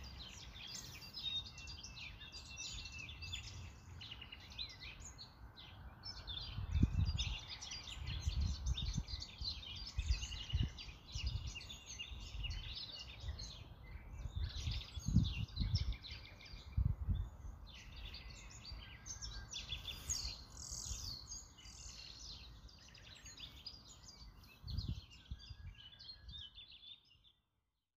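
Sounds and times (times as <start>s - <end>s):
birds chirping: 0.0s - 27.4s.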